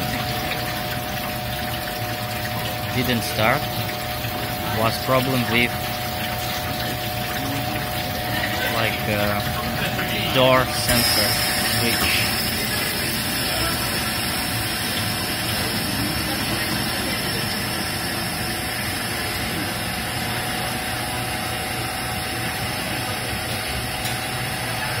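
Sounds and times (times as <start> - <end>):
ice machine humming: 0.0 - 25.0.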